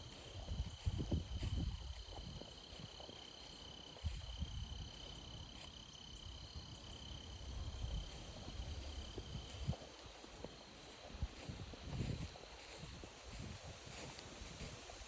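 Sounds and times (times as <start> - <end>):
crickets trilling: 0.0 - 15.0
footsteps on a trail: 0.0 - 15.0.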